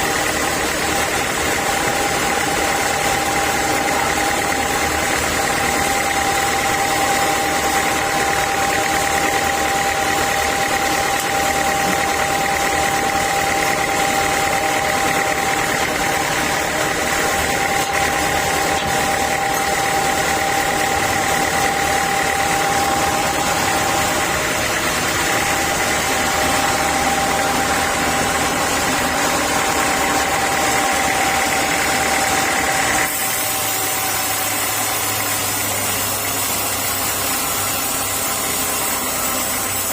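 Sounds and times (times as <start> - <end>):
noisy machinery drone: 0.0 - 39.9
sawmill saw whine: 0.0 - 39.9.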